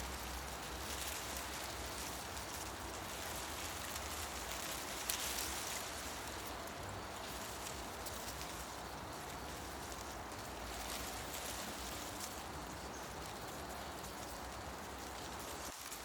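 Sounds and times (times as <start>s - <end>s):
leaves brushing together: 0.0s - 16.0s
wind rustling tree leaves: 0.0s - 16.0s.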